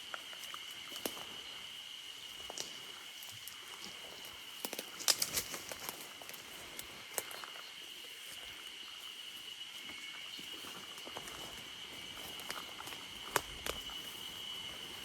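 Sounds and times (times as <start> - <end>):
footsteps through forest brush: 0.0 - 15.0
high insect drone: 0.0 - 15.0
twigs and leaves crackling: 0.0 - 15.0.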